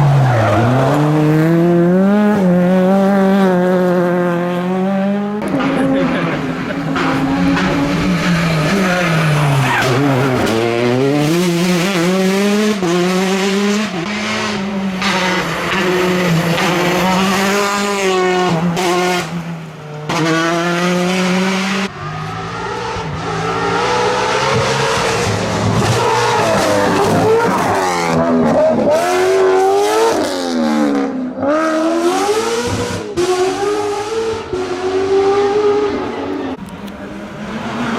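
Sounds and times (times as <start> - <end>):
rally car engine at full throttle: 0.0 - 37.9.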